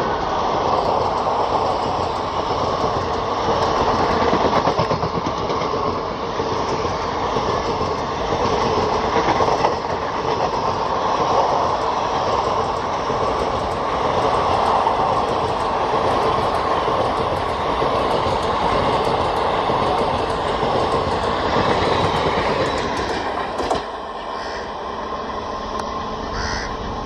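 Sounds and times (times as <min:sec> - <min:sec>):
train wheels running on rails: 0:00.0 - 0:27.0.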